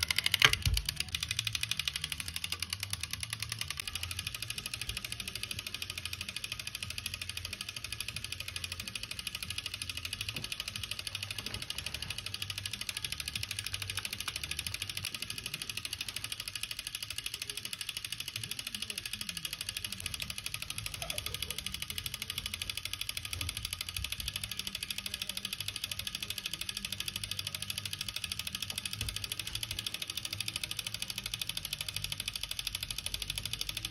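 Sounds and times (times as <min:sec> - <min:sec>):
rapid mechanical ticking: 0:00.0 - 0:33.9.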